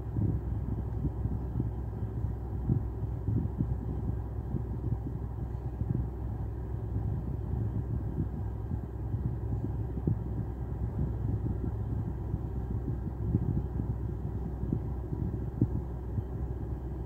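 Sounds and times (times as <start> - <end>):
car idling: 0.0 - 17.0.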